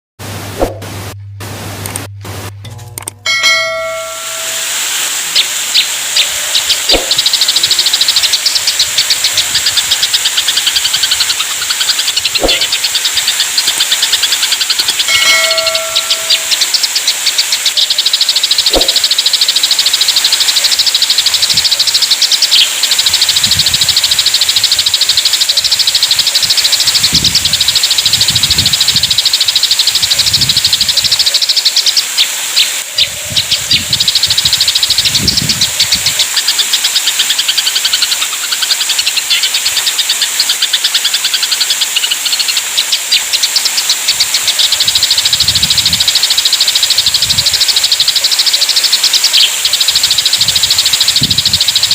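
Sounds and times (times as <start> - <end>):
sparrows chirping harshly: 3.7 - 51.9.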